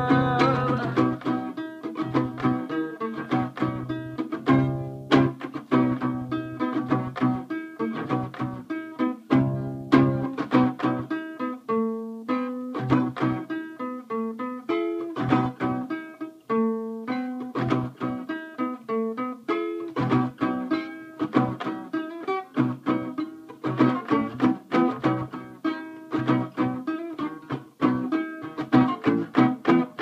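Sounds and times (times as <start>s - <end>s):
solo guitar melody: 0.0s - 30.0s.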